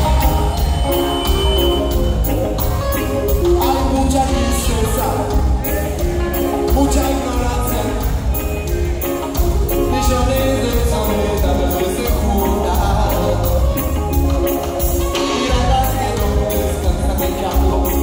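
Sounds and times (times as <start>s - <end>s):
live reggae band playing: 0.0s - 18.0s
person singing: 0.0s - 18.0s.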